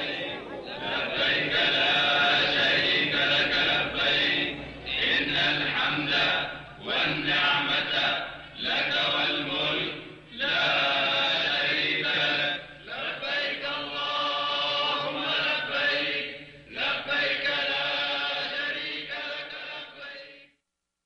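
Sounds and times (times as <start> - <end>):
many voices chanting: 0.0 - 20.4.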